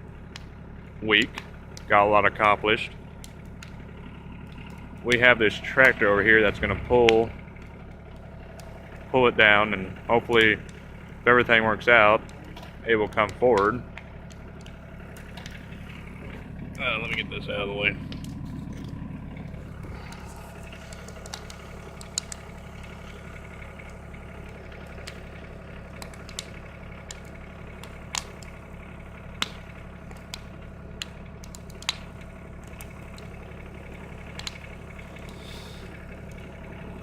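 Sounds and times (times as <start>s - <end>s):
tractor engine idling: 0.0s - 37.0s
wood fire crackling: 0.0s - 37.0s.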